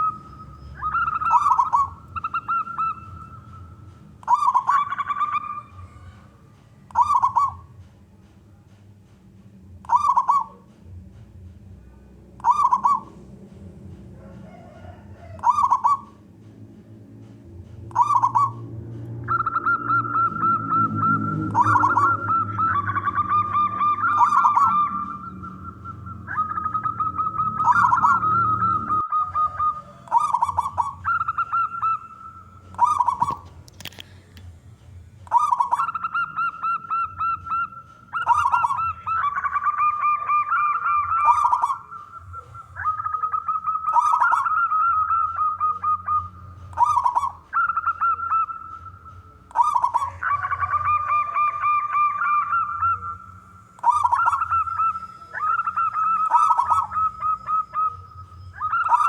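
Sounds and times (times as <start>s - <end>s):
doves cooing: 0.0s - 8.1s, 9.7s - 59.0s.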